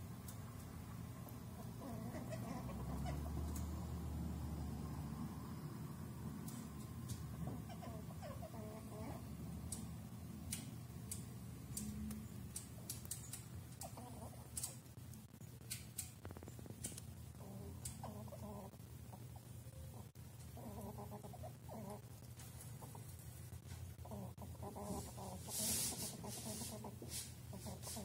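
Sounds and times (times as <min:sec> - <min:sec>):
squirrels clucking calls: 0:00.0 - 0:04.6, 0:06.4 - 0:28.0.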